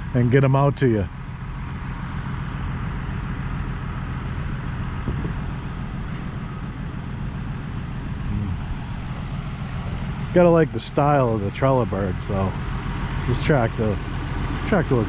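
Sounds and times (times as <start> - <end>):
tractor engine humming: 0.0 - 15.0.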